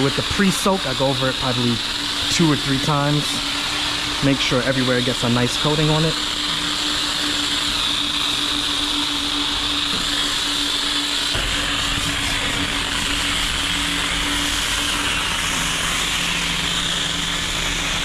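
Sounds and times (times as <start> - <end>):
spray hissing: 0.0 - 18.0
steady hum: 0.0 - 18.0.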